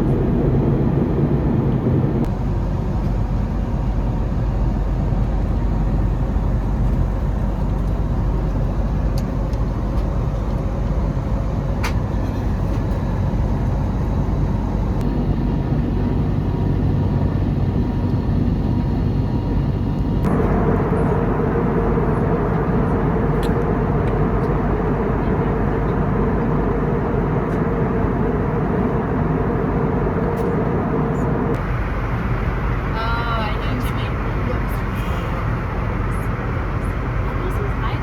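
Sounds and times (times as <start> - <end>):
airplane cabin engine rush: 0.0 - 38.0.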